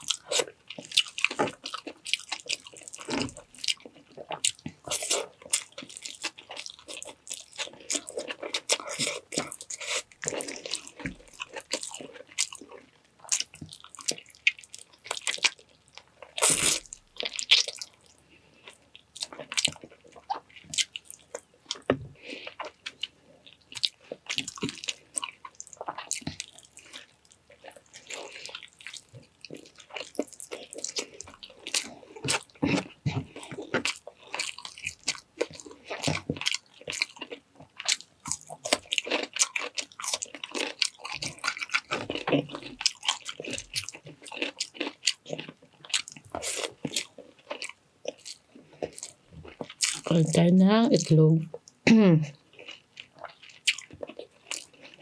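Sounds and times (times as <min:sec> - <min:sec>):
person chewing crunchy food: 0:00.0 - 0:50.4, 0:52.4 - 0:55.0.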